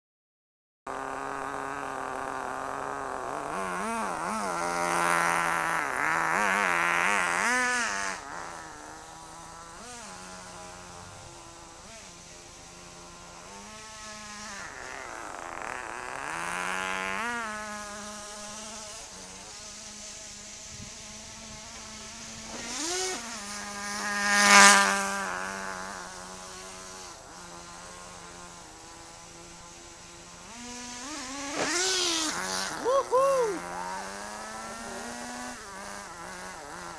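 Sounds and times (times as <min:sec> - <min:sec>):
rc truck engine buzzing: 0:00.9 - 0:36.9.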